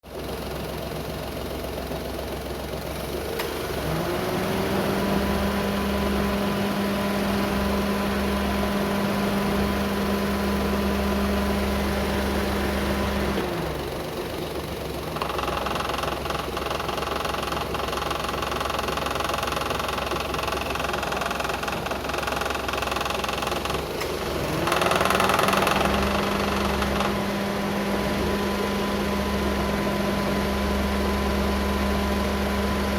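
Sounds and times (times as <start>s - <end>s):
car engine running: 0.1s - 32.9s.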